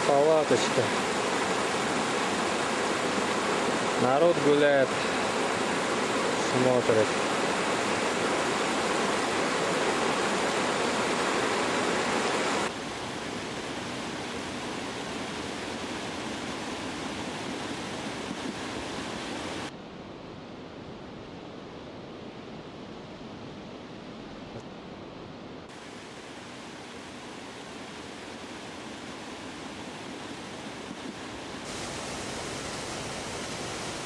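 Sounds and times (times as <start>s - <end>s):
mountain stream rushing: 0.0s - 19.7s, 25.7s - 34.0s.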